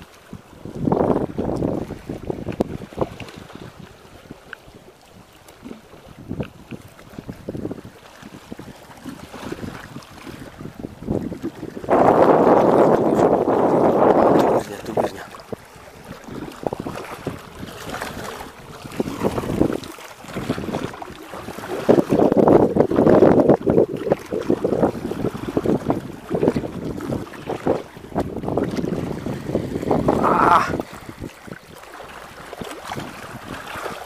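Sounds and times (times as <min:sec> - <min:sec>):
choppy water: 0:00.0 - 0:34.0
wind buffeting microphone: 0:00.0 - 0:34.0.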